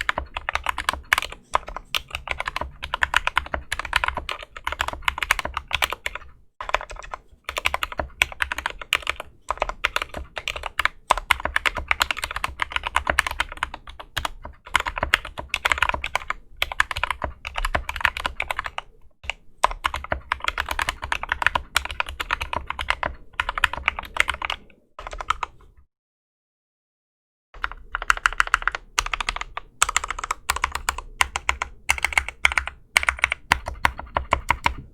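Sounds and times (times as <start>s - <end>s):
mechanical keyboard typing: 0.0s - 25.8s, 27.6s - 34.9s.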